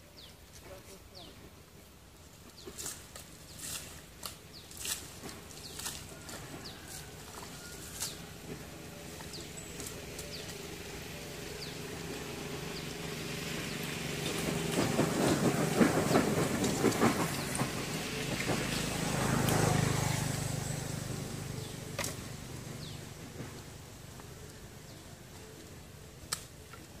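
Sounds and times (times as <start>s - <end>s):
vehicle engine passing: 4.5s - 26.2s.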